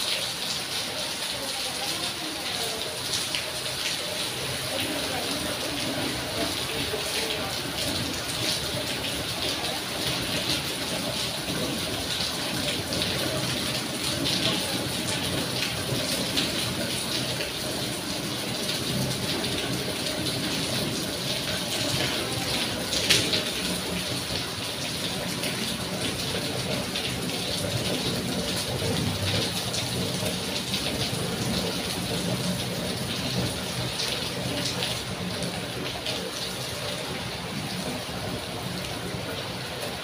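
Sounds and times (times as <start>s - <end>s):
steady rain splashing: 0.0s - 40.0s.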